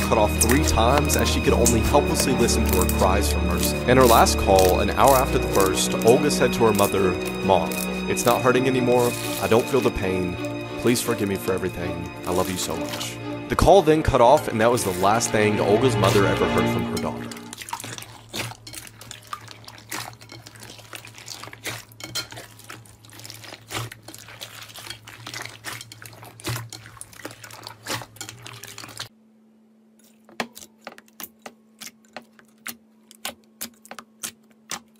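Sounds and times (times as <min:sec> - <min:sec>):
slime squelching and crackling: 0:00.0 - 0:29.1, 0:30.0 - 0:34.9.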